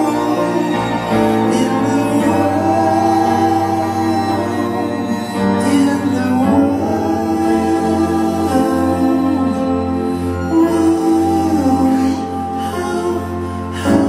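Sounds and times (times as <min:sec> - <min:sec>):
band playing: 0:00.0 - 0:14.0
person singing: 0:00.0 - 0:14.0.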